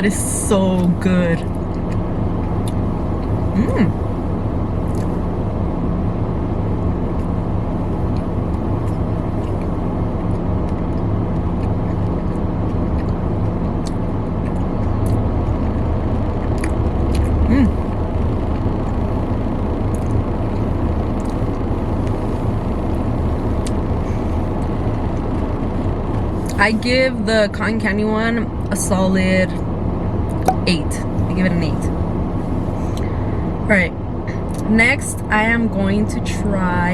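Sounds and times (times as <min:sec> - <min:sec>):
car engine rumble: 0:00.0 - 0:36.9
steady hum: 0:00.0 - 0:36.9.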